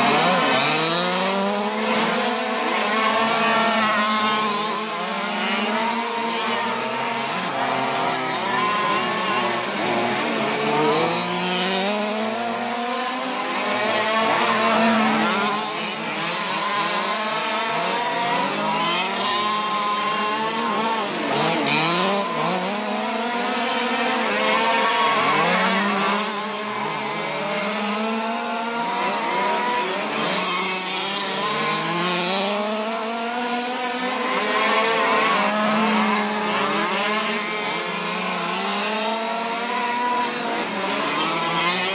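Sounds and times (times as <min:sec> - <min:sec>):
small two-stroke rc car engines: 0:00.0 - 0:41.9.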